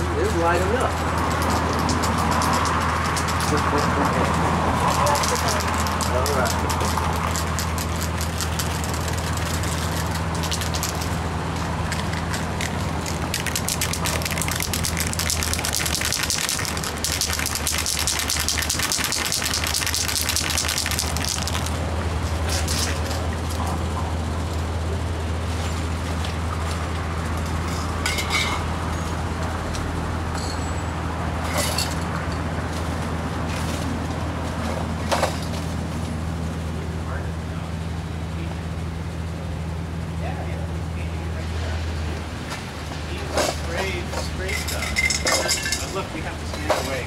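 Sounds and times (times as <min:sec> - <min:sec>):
low hum: 0:00.0 - 0:43.8.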